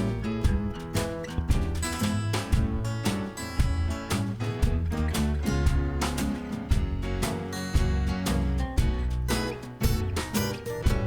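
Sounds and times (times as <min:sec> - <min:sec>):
acoustic guitar music with beat: 0:00.0 - 0:11.0.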